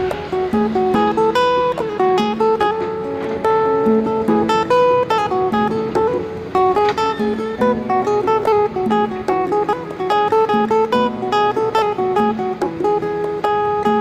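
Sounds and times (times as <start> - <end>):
plucked acoustic guitar melody: 0.0 - 14.0.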